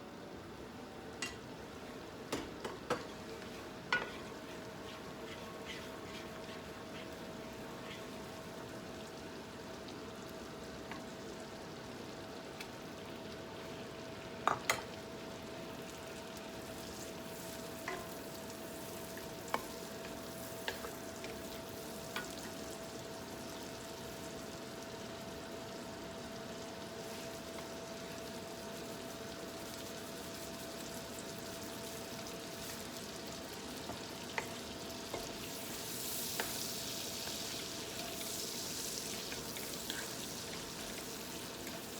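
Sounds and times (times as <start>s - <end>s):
faint steady hum: 0.0s - 41.9s
food sizzling in frying pan: 1.1s - 41.9s.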